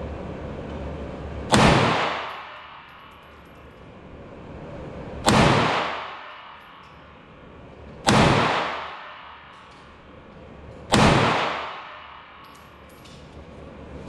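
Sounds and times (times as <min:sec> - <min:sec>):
gunshots echoing indoors: 0:01.4 - 0:14.0.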